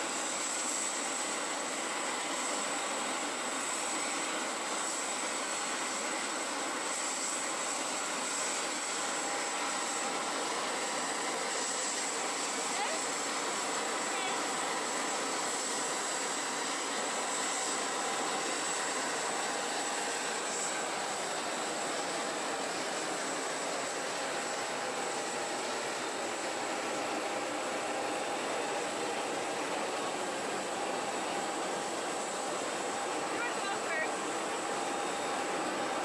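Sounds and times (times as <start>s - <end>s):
high-pitched turbine whine: 0.0s - 36.0s.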